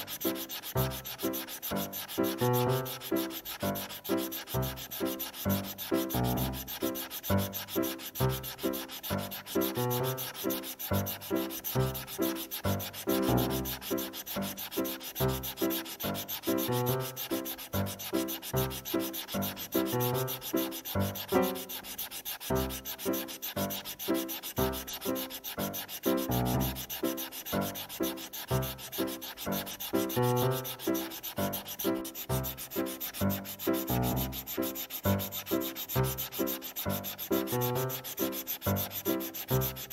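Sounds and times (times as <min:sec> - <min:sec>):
pen scratching colouring strokes: 0:00.0 - 0:39.9.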